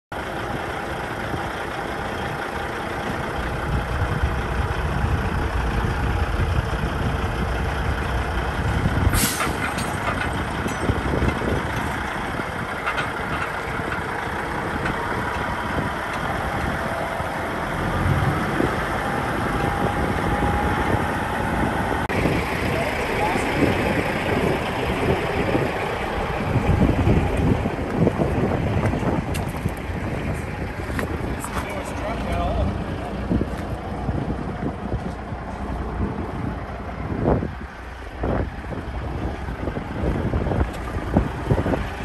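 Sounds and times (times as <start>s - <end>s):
diesel truck engine idling: 0.1s - 42.0s.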